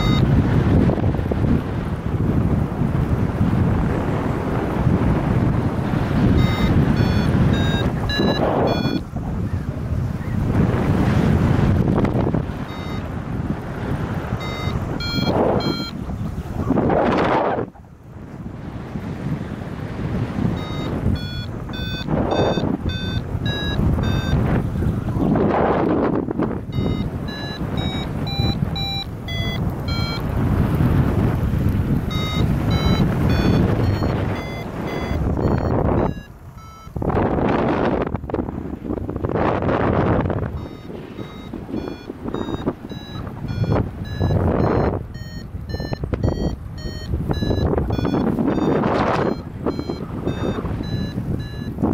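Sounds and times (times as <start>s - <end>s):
variometer beeping: 0.0s - 1.1s, 5.8s - 10.4s, 11.6s - 17.8s, 20.0s - 38.2s, 39.9s - 51.9s
wind on microphone: 0.0s - 51.9s.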